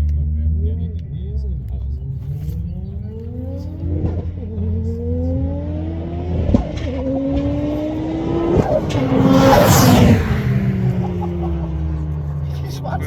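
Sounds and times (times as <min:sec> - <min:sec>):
race car engine accelerating: 0:00.0 - 0:13.0
gear shift crack: 0:01.6 - 0:13.0.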